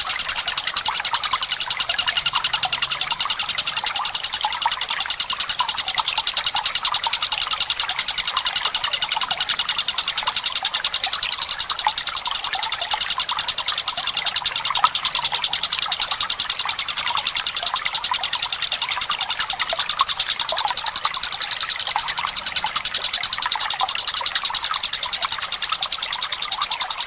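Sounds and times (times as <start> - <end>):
bird singing a rapid trill: 0.0 - 27.0
trickling water: 0.0 - 27.0.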